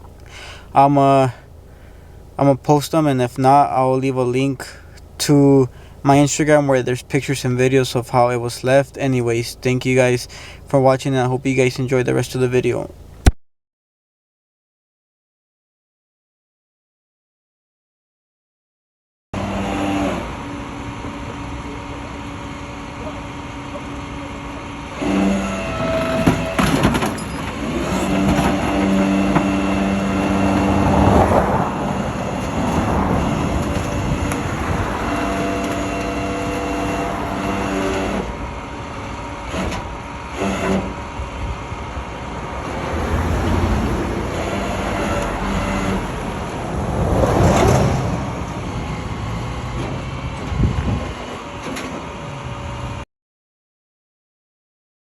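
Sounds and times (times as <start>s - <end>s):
vehicle engine hum: 0.0s - 13.3s, 19.4s - 53.0s.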